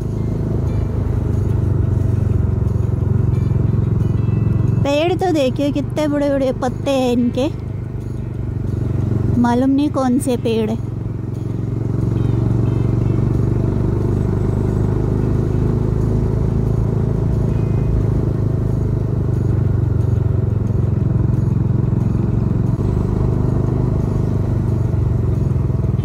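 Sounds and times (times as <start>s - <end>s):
car engine and tyre drone: 0.0s - 26.0s.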